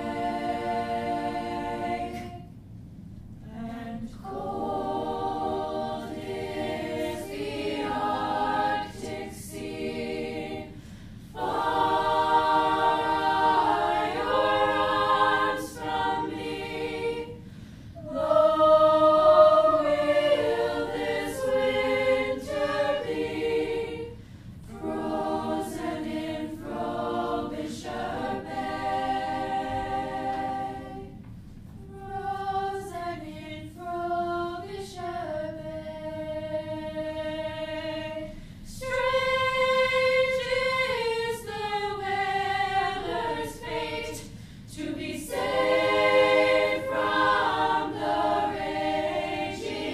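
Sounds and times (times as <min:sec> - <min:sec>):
choir singing: 0:00.0 - 0:02.6, 0:03.4 - 0:31.2, 0:31.8 - 0:49.9.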